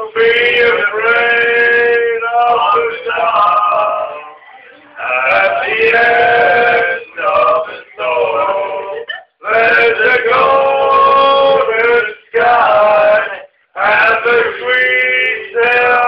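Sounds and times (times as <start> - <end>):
drunken men singing: 0.0 - 16.0.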